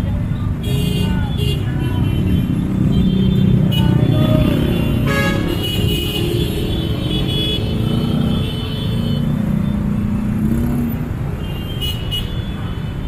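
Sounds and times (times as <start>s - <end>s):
dense street traffic rumble: 0.0s - 13.0s.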